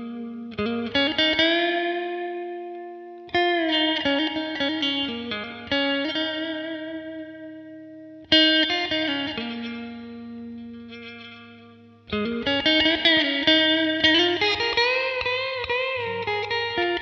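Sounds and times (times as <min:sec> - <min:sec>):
electric guitar chords ringing: 0:00.0 - 0:17.0.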